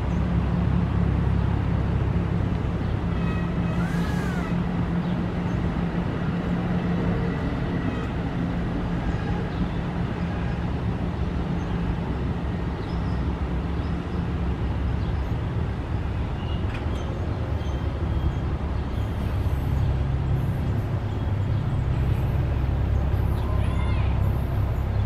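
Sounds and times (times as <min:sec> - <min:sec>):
train rumble: 0:00.0 - 0:25.0.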